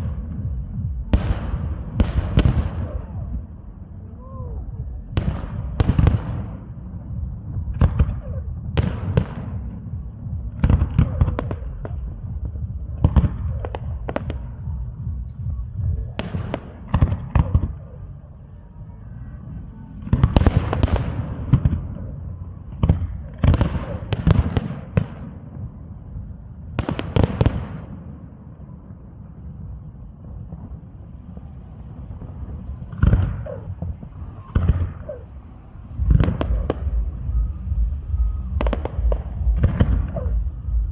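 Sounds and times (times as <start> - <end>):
fireworks booming: 0.0 - 18.6, 19.4 - 40.9
low rumble: 0.0 - 40.9.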